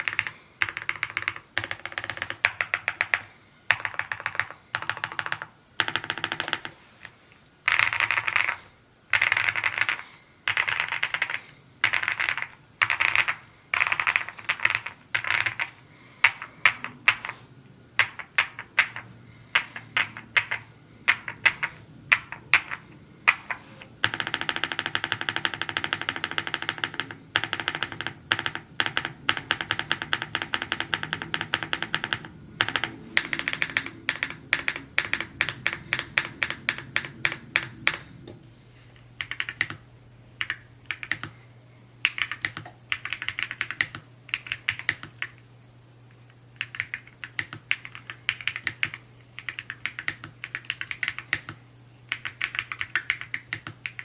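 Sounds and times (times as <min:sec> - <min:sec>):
mechanical keyboard typing: 0:00.0 - 0:06.8, 0:07.6 - 0:17.4, 0:18.0 - 0:38.2, 0:39.2 - 0:41.4, 0:42.0 - 0:45.4, 0:46.5 - 0:54.0.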